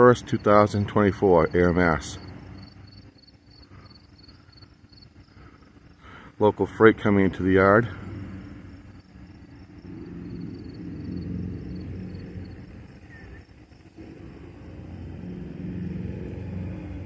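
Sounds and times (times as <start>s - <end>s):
distant locomotive engines rumbling: 0.0s - 17.0s.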